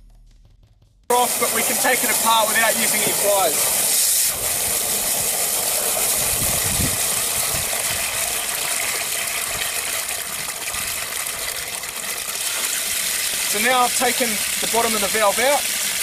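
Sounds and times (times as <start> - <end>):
water gushing and splashing: 1.1 - 16.0.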